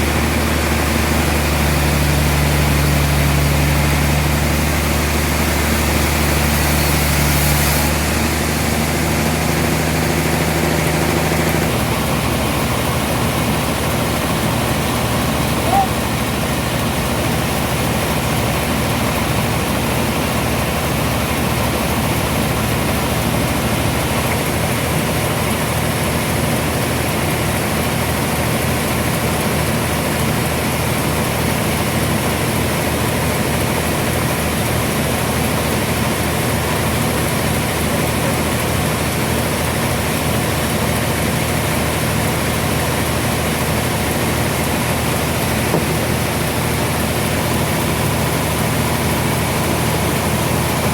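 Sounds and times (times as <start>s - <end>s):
sawmill machinery humming: 0.0s - 50.9s.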